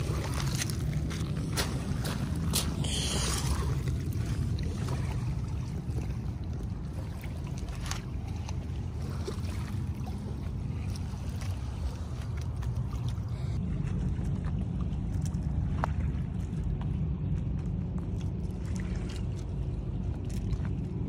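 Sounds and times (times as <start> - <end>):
water at lakeshore: 0.0 - 21.0.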